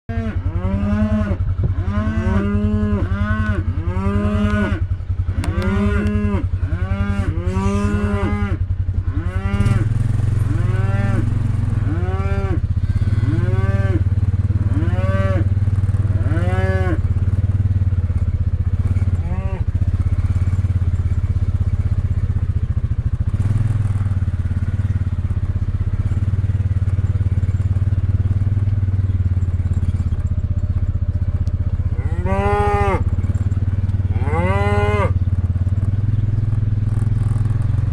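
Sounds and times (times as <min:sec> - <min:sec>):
cattle mooing: 0:00.1 - 0:28.5, 0:31.0 - 0:35.7
atv engine running: 0:00.1 - 0:37.9.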